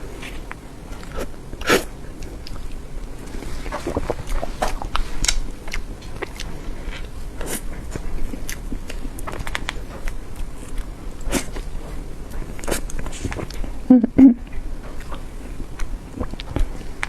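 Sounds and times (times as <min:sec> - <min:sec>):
chewing with wet mouth clicks: 0:00.2 - 0:13.8, 0:14.4 - 0:17.0.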